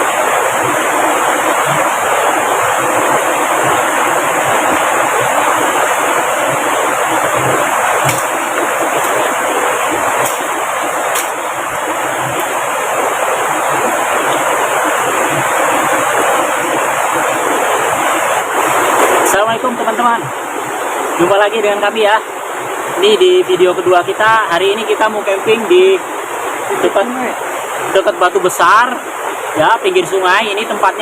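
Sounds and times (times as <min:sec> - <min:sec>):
river rushing over rocks: 0:00.0 - 0:31.0.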